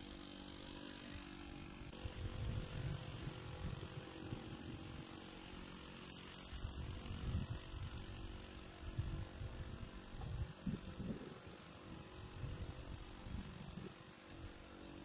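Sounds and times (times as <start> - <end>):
distant motor drone: 0.0 - 15.0.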